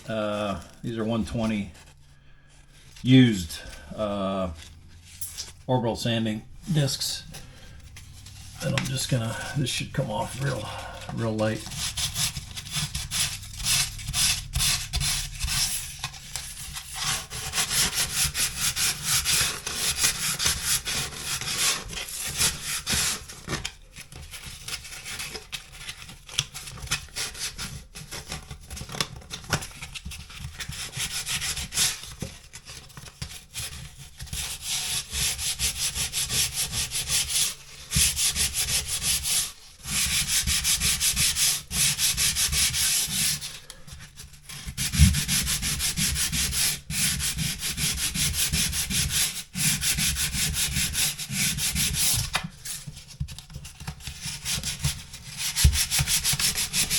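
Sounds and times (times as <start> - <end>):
sandpaper rubbing on drywall: 8.3 - 53.0, 53.8 - 56.9.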